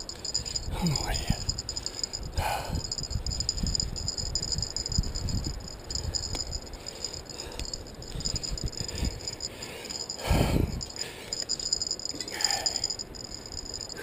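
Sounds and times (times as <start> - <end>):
wind rumbling on microphone: 0.0 - 12.1.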